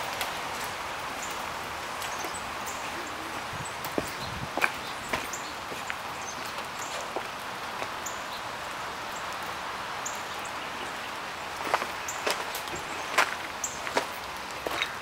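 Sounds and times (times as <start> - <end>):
footsteps on wet leaves and gravel: 0.0 - 15.0
steady outdoor hiss: 0.0 - 15.0.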